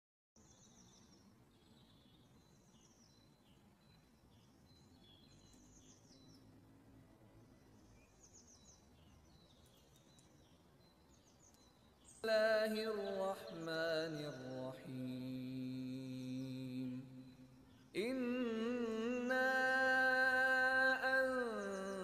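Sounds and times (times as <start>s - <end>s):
faint bird chirps: 0.4s - 22.0s
low background hiss: 0.4s - 22.0s.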